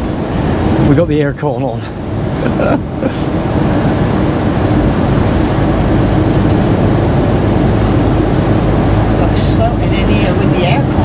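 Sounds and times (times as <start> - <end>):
engine drone: 0.0 - 11.0
wind: 0.0 - 11.0.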